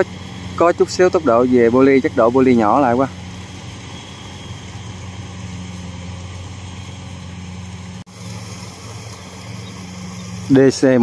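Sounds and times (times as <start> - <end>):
combine harvester engines humming: 0.0 - 11.0.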